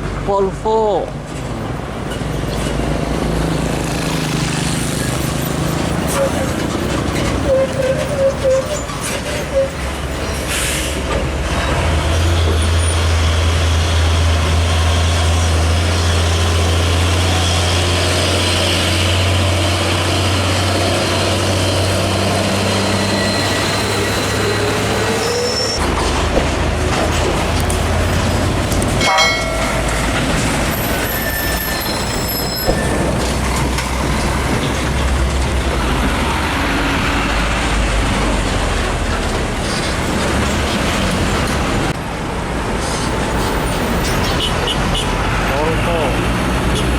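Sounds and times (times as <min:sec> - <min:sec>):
heavy trucks passing: 0:00.0 - 0:46.9.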